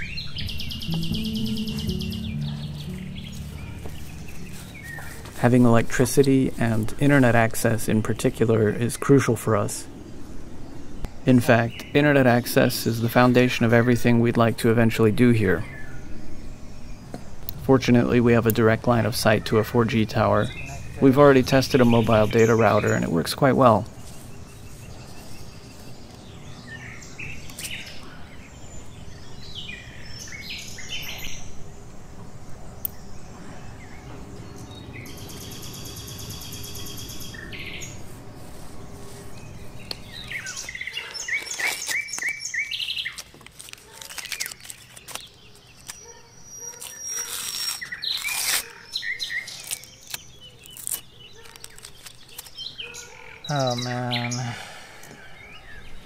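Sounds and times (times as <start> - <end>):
birds chirping and singing: 0.0 - 56.0
low background noise: 0.0 - 56.0.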